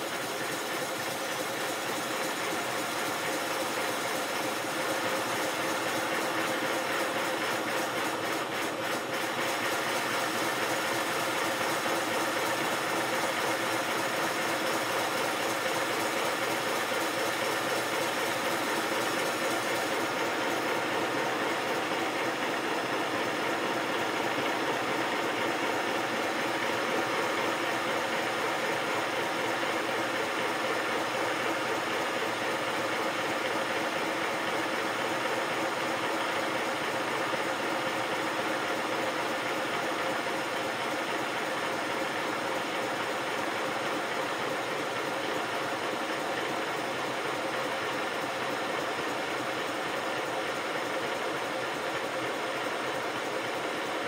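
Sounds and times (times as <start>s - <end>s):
model steam locomotive running: 0.0s - 54.0s.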